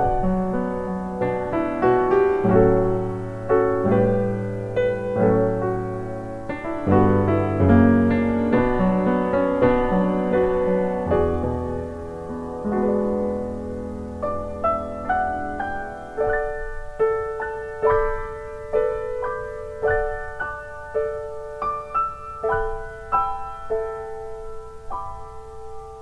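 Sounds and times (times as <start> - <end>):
slow gentle solo piano: 0.0 - 26.0.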